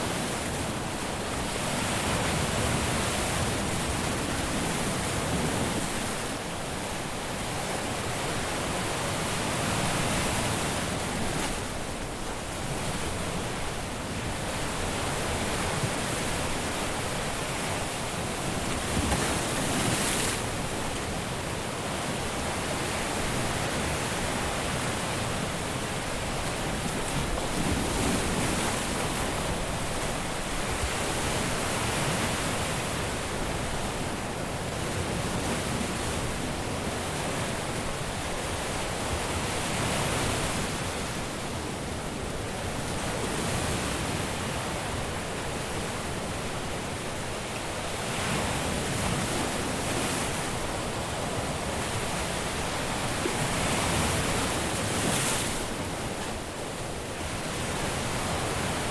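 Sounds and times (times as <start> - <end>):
waves breaking on a beach: 0.0 - 58.9.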